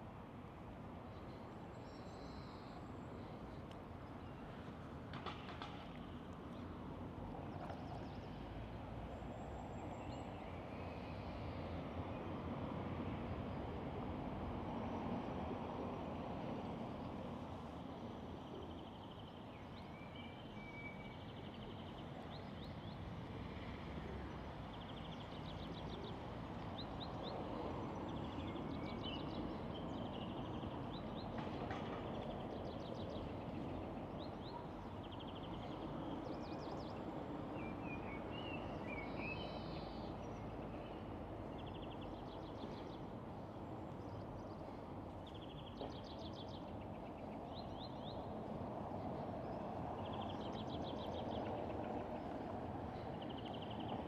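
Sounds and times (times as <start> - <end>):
city noise: 0.0 - 54.0.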